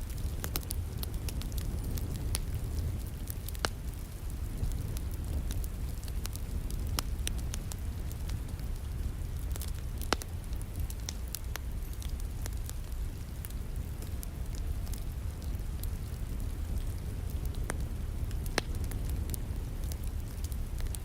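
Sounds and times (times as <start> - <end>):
rain rumble: 0.0 - 21.0
wood fire crackling and popping: 0.0 - 21.0.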